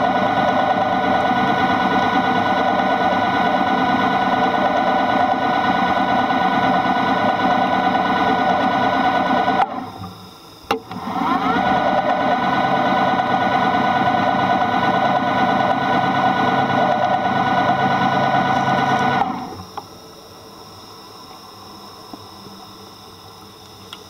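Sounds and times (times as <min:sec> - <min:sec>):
small motor whining underwater: 0:00.0 - 0:23.4.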